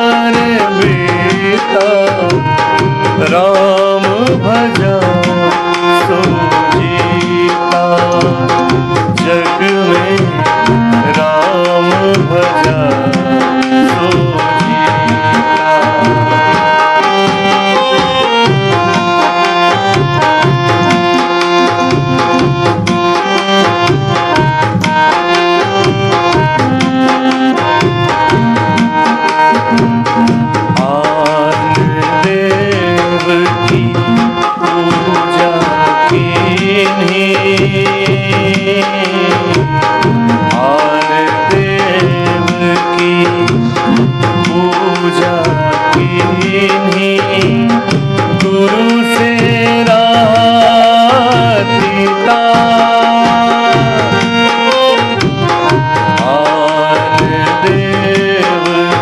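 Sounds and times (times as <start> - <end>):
harmonium melody: 0.0 - 59.0
tabla playing: 0.0 - 59.0.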